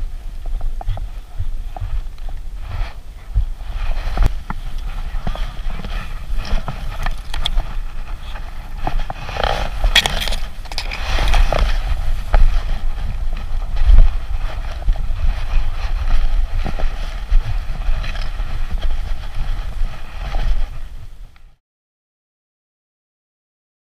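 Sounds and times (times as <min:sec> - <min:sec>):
grass rustling against camera: 0:00.0 - 0:21.6
camera rumbling and knocking: 0:00.4 - 0:21.2.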